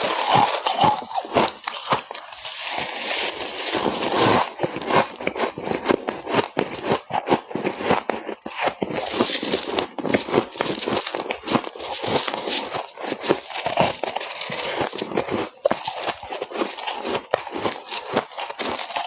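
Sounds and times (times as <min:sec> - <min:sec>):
crunching of frosty ice: 0:00.0 - 0:19.0.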